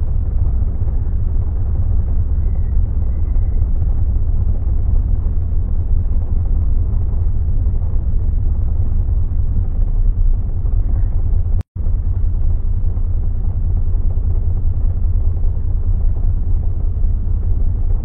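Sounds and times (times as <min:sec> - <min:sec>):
city bus rumbling: 0:00.0 - 0:18.0.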